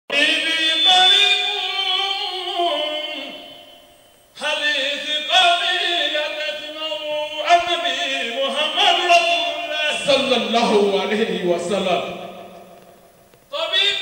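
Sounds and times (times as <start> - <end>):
man chanting through a microphone: 0.1 - 3.8, 4.4 - 12.7, 13.5 - 14.0.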